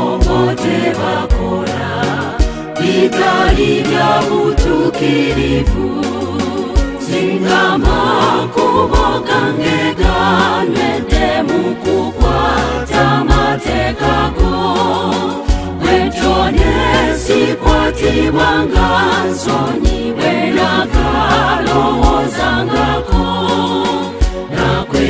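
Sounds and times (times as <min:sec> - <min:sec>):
choir singing gospel in harmony: 0:00.0 - 0:25.0
steady beat and bass line: 0:00.0 - 0:25.0.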